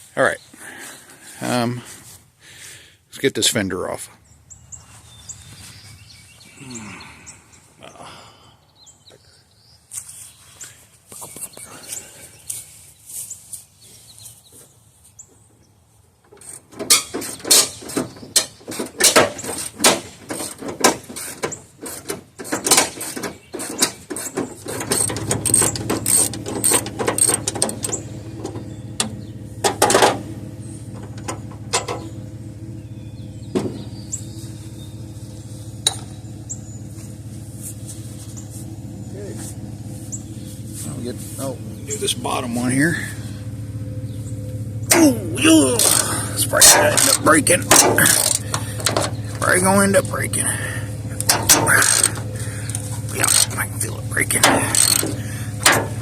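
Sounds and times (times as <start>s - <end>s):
steady low hum: 0.6s - 13.8s, 24.0s - 56.0s.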